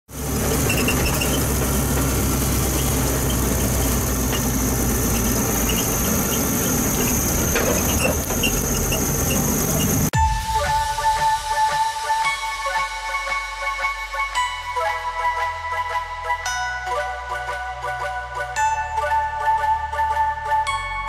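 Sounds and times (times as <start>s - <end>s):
high-pitched whine: 0.1s - 20.7s
engine and road noise drone: 0.1s - 20.8s.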